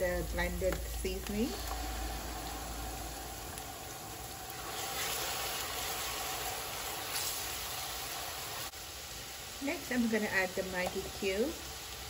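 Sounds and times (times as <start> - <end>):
paste sizzling in hot oil: 0.2 - 12.0.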